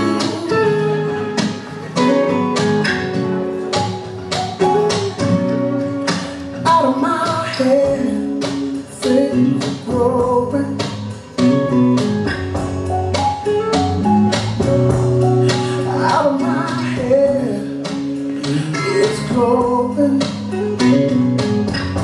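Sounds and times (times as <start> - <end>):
song with vocals and guitar: 0.0 - 22.0.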